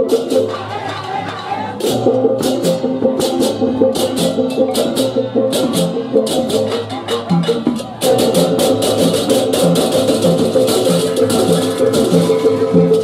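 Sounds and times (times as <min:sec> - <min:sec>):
hand drums: 0:00.0 - 0:13.0.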